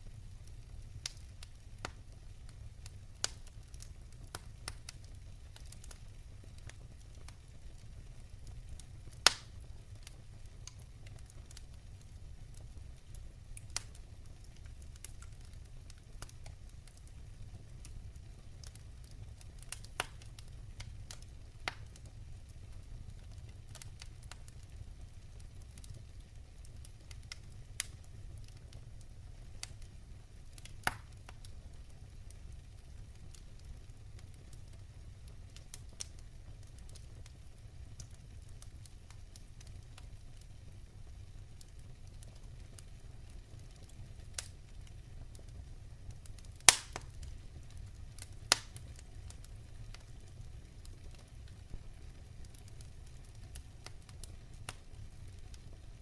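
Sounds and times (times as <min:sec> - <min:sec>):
firewood burning and popping: 0:00.0 - 0:56.0.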